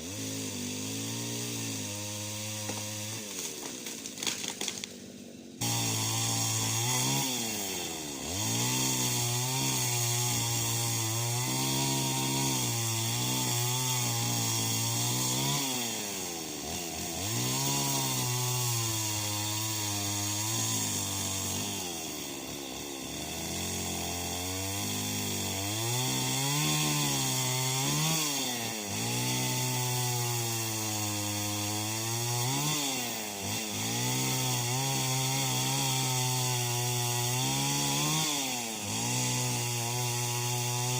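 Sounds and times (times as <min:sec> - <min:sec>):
chainsaw cutting branches: 0:00.0 - 0:40.9.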